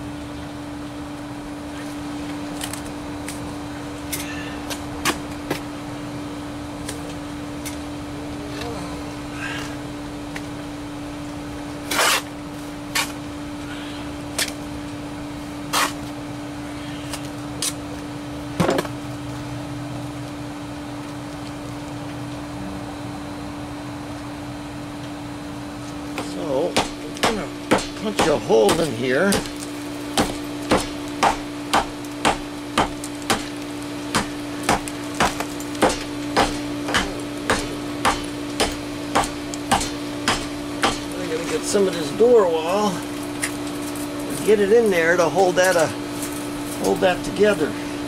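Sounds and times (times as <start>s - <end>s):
steady machine hum: 0.0s - 48.0s.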